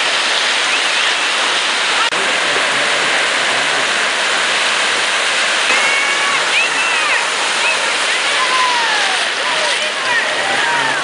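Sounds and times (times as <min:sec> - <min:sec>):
small waves breaking: 0:00.0 - 0:11.0.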